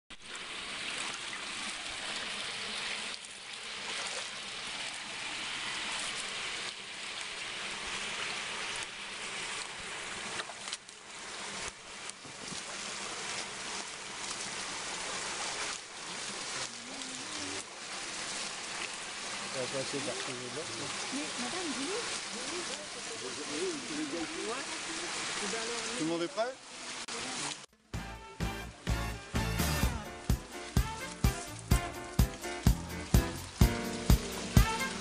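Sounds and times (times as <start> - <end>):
stream water rushing: 0.1 - 35.0.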